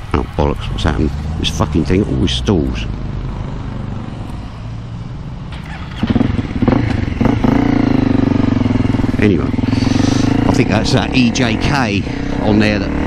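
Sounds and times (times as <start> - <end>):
motorcycle engine starting and revving: 0.4 - 13.0
motorcycle engine idling: 0.8 - 13.0.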